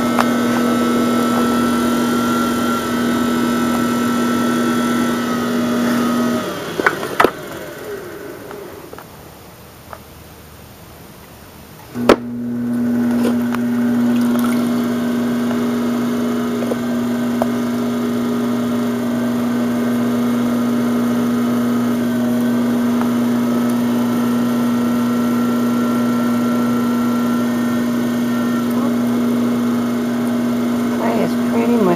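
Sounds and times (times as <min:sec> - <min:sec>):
pottery wheel motor humming: 0:00.0 - 0:09.0, 0:11.9 - 0:31.9.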